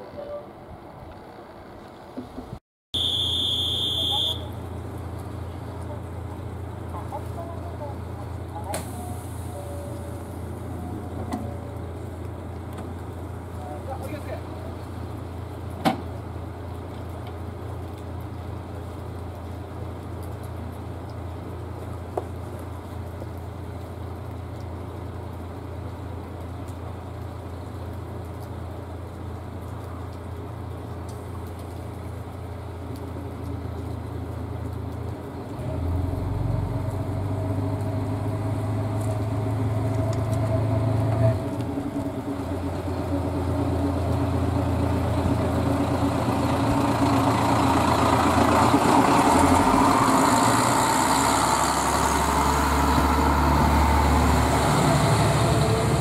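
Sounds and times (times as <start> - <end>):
diesel railcar engine humming: 3.0 - 56.0.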